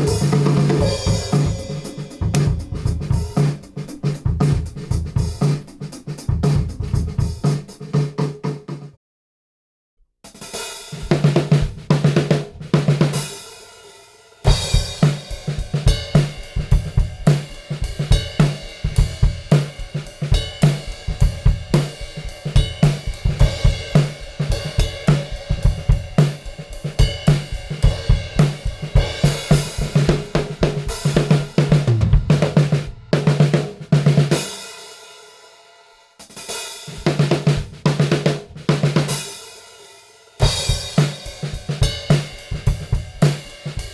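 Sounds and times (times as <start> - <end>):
funk groove on drum kit: 0.0 - 8.9, 10.3 - 35.4, 36.2 - 43.9.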